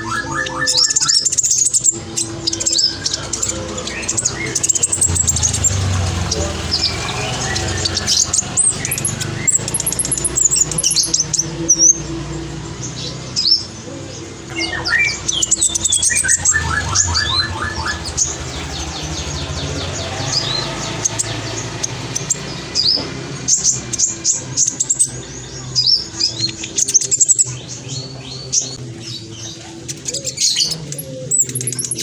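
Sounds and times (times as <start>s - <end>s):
bird twittering song: 0.0s - 32.0s
other birds calling: 0.0s - 32.0s.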